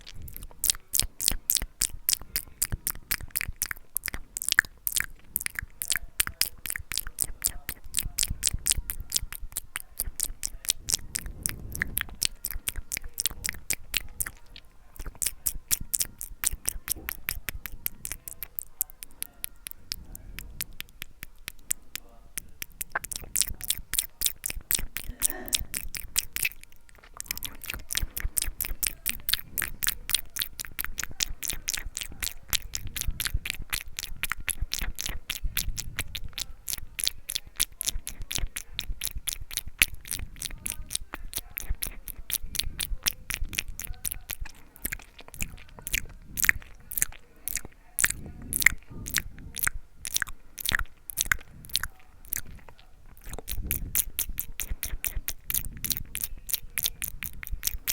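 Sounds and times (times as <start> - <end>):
wet mouth clicks and smacks: 0.0 - 57.9.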